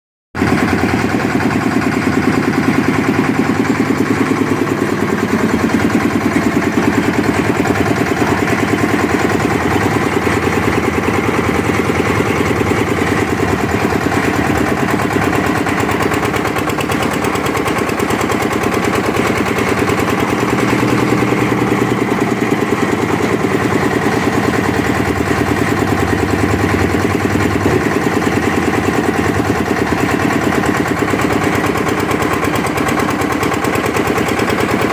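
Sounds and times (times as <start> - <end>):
concrete mixer engine pulsing: 0.4 - 34.9.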